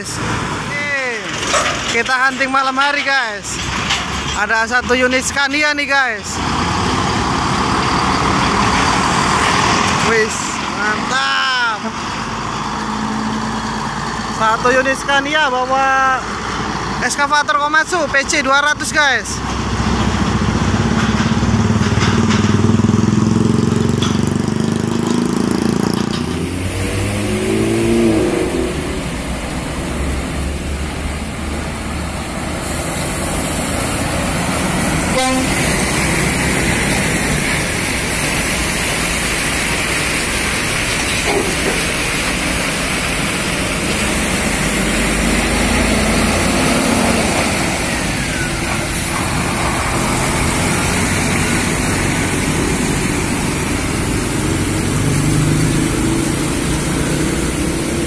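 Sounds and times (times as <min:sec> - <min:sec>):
road traffic noise: 0:00.0 - 0:58.0
truck diesel engine passing: 0:00.0 - 0:58.0.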